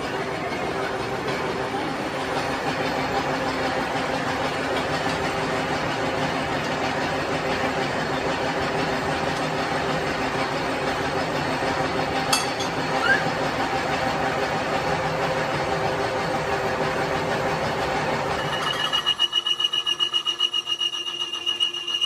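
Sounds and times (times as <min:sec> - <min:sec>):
factory machinery humming: 0:00.0 - 0:19.9.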